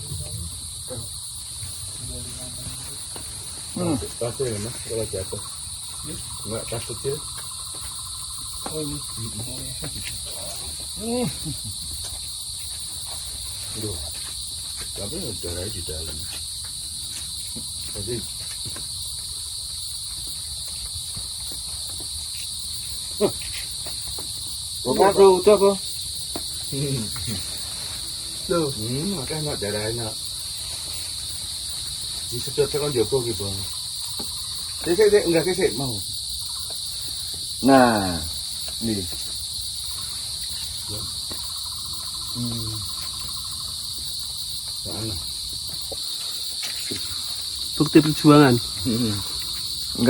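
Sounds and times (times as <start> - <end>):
shrill chorus of forest insects: 0.0 - 50.0.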